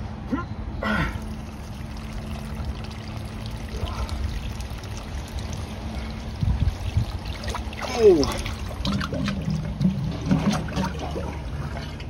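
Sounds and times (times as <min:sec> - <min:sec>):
sewage water pouring and trickling: 0:01.1 - 0:12.0.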